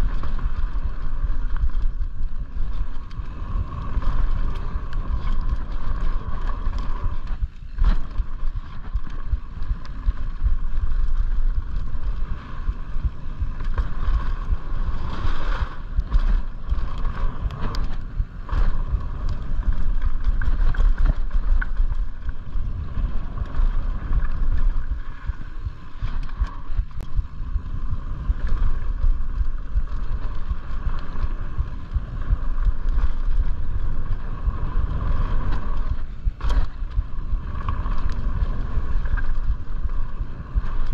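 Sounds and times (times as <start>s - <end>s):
bike rattling over bumps: 0.0s - 40.9s
wind buffeting microphone: 0.0s - 40.9s.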